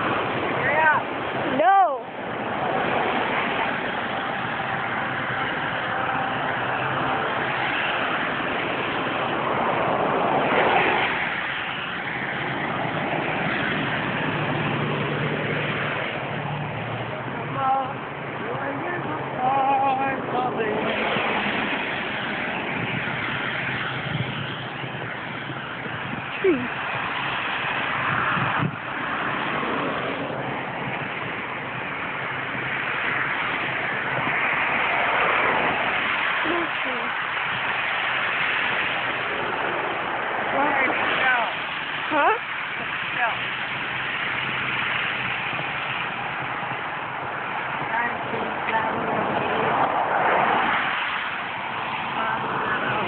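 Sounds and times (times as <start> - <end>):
road traffic passing: 0.0 - 53.0
wind rushing: 0.0 - 53.0.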